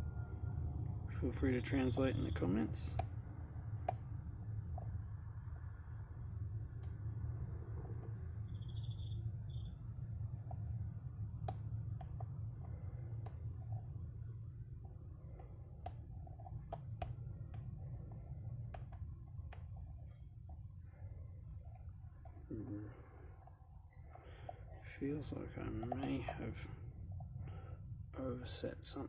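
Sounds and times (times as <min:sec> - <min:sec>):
crickets chirping: 0:00.0 - 0:29.0
steady low hum: 0:00.0 - 0:29.0.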